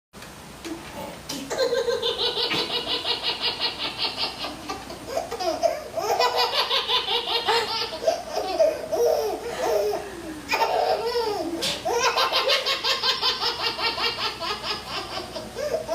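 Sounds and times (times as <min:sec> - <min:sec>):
baby laughing: 0:01.5 - 0:15.9.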